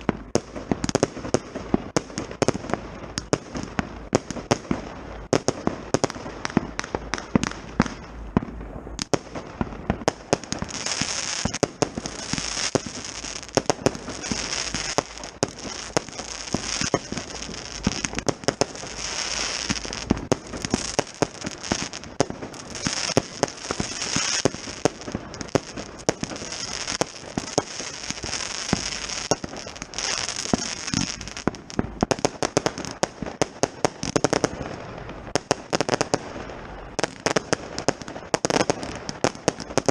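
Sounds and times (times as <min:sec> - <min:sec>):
firework bangs: 0:00.0 - 0:39.9
hissing crackle of fireworks: 0:00.0 - 0:39.9.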